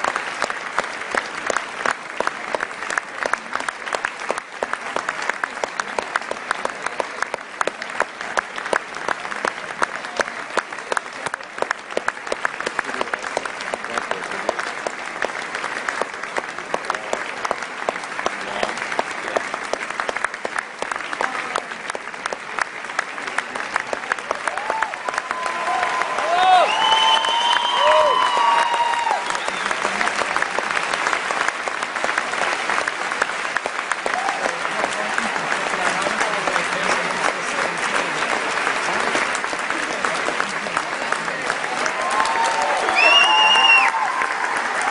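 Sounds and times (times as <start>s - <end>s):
audience applauding: 0.0s - 44.9s
individual claps close by: 0.0s - 44.9s.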